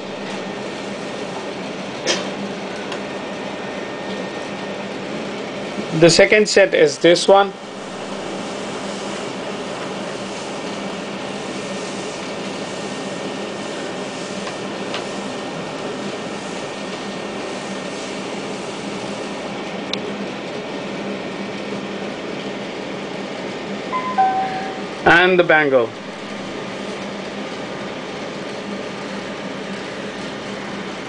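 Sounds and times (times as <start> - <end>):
room machinery hum and hiss: 0.0 - 31.0.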